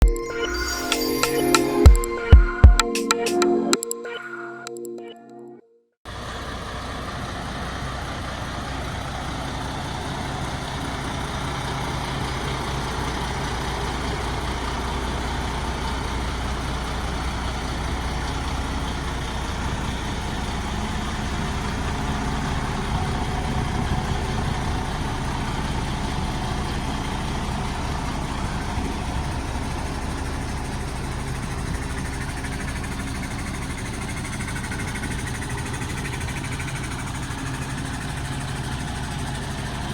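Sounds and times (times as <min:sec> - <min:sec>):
diesel truck engine running: 0:06.1 - 0:39.9.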